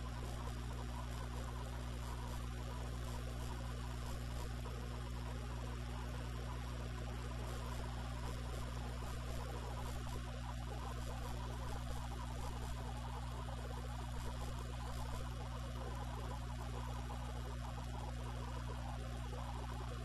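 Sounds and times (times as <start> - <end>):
low ambient drone with hiss: 0.0 - 20.0.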